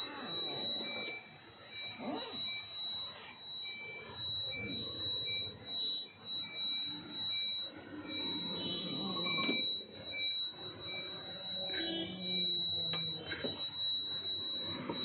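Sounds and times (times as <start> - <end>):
high-pitched whine: 0.0 - 15.0
short electronic beeps: 0.0 - 15.0.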